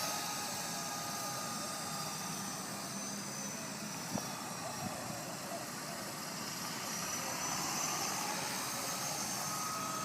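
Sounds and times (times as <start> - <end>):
lower motor whine: 0.0 - 10.0
toy helicopter motor whine: 0.0 - 10.0.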